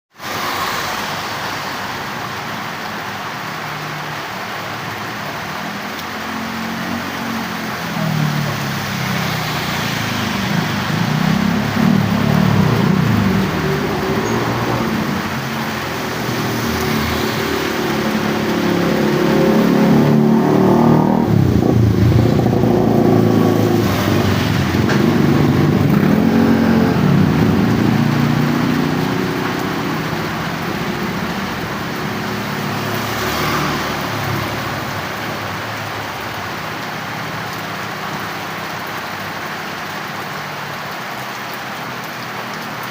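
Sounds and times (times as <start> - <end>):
heavy rain hissing: 0.1 - 42.9.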